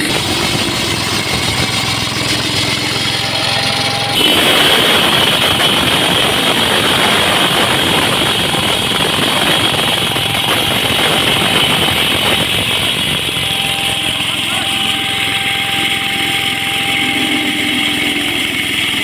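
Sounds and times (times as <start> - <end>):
continuous high whine: 0.0 - 19.0
machine engine running: 0.0 - 19.0.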